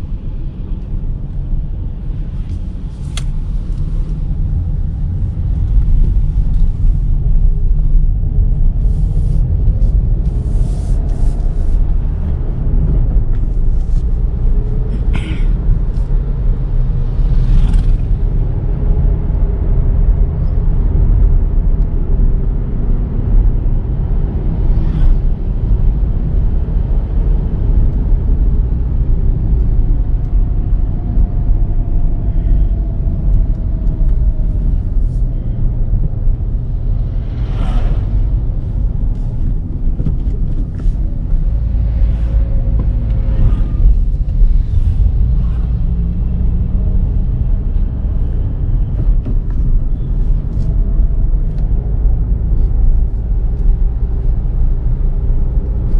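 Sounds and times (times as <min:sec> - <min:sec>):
car engine and tyres rumbling: 0:00.0 - 0:55.9.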